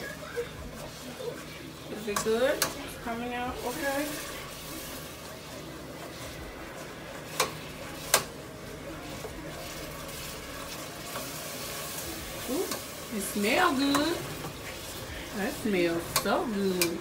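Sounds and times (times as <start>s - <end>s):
sauce simmering: 0.0s - 17.0s.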